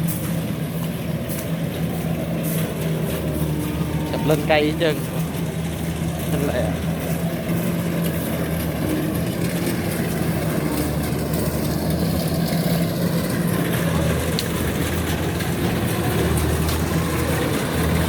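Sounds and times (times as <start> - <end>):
combine harvester engine running: 0.0 - 18.0.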